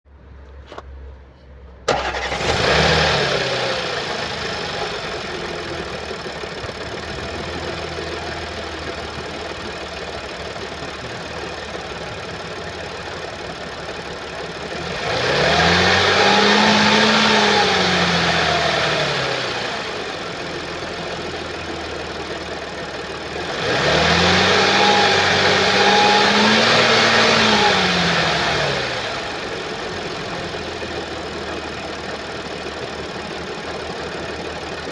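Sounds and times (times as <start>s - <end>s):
car engine idling and revving: 0.2s - 34.9s
car engine starting: 0.5s - 34.9s.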